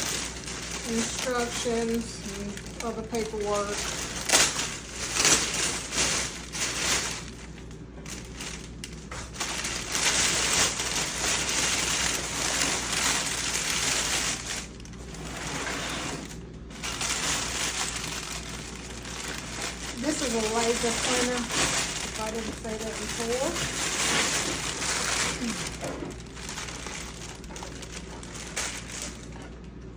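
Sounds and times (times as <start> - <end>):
packaging crinkling and rustling: 0.0 - 29.9.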